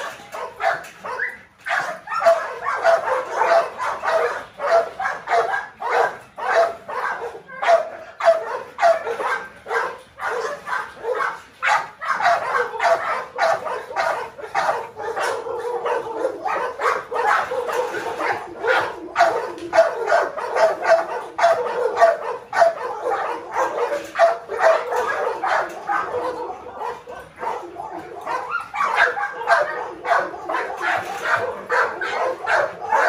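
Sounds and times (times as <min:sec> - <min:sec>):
dogs barking: 0:00.0 - 0:33.0.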